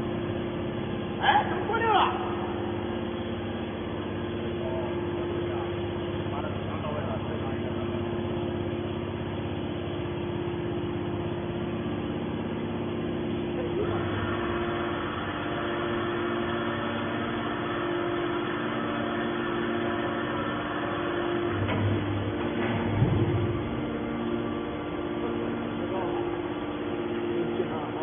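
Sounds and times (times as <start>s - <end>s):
baler motor and pump humming: 0.0s - 28.0s.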